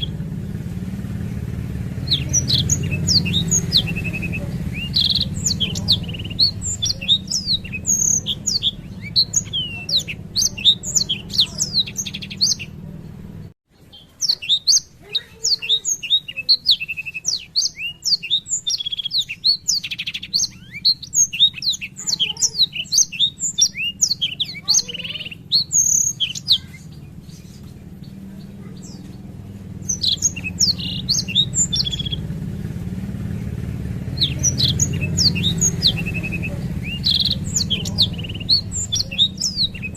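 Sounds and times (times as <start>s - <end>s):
steady low hum: 0.0s - 13.6s, 17.0s - 39.9s
canary singing trills: 0.0s - 39.9s.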